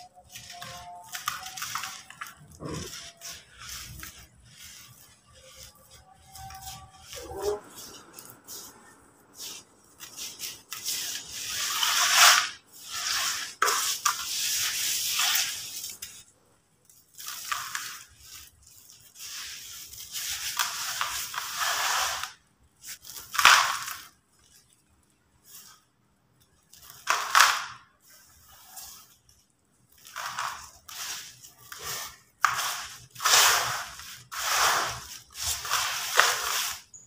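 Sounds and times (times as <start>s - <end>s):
hands crunching gritty sand mix: 0.0s - 16.2s, 17.0s - 24.5s, 29.9s - 37.0s.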